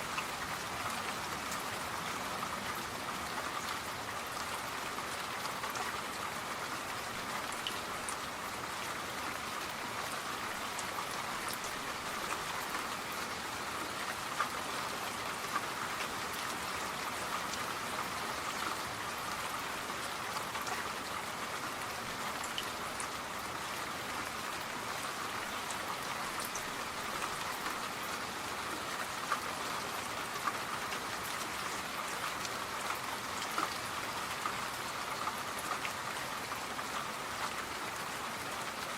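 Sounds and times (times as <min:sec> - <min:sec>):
raindrops ticking on surface: 0:00.0 - 0:38.9
steady rain hiss: 0:00.0 - 0:38.9.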